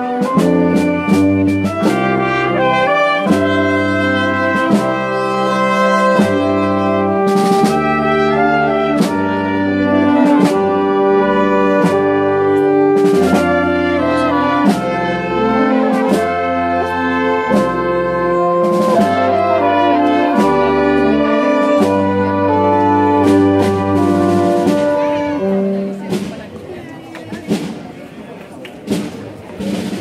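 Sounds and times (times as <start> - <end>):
brass and wind band playing: 0.0 - 26.9.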